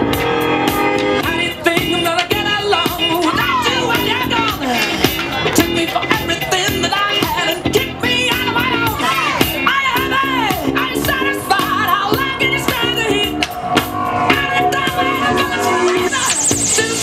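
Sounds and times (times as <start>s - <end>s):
upbeat song with singing: 0.0s - 17.0s.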